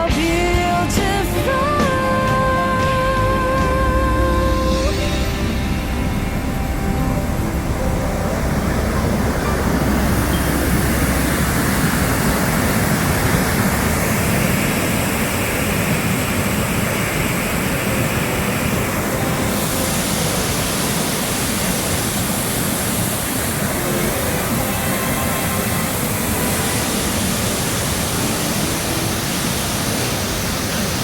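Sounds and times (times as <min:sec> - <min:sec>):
heavy rain falling: 0:03.6 - 0:31.0.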